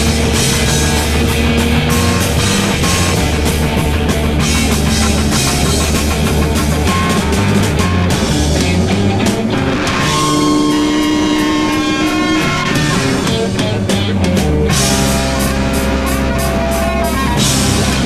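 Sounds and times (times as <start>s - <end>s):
drums: 0.0s - 18.0s
electric guitar: 0.0s - 18.0s.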